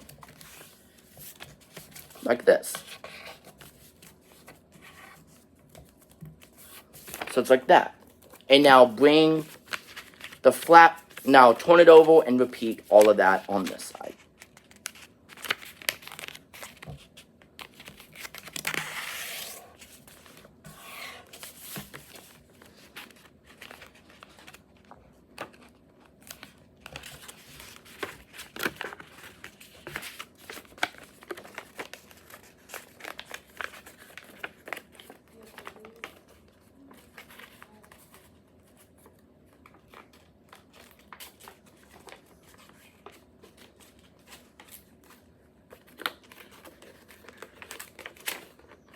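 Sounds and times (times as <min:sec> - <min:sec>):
paper crinkling and rustling: 0:00.0 - 0:07.5, 0:08.1 - 0:48.9.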